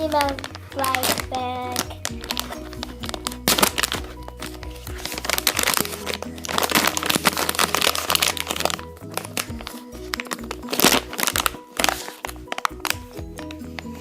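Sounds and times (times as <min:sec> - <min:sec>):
background music: 0:00.0 - 0:14.0
wrapping crinkling: 0:00.0 - 0:14.0.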